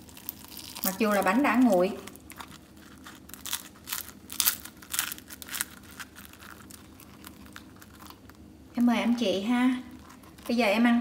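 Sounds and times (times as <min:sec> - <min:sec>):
crisp batter crackling: 0:00.0 - 0:11.0.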